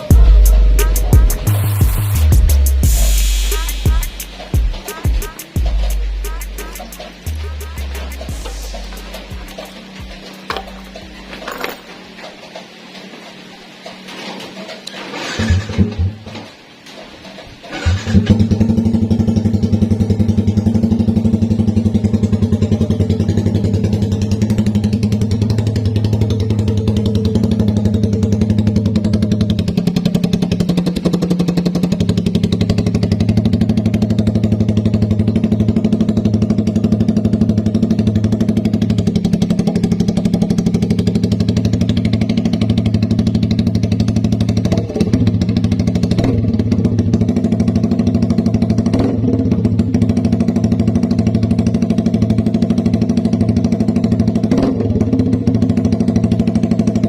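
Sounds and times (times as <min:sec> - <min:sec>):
loud engine without muffler: 0:05.6 - 0:57.0.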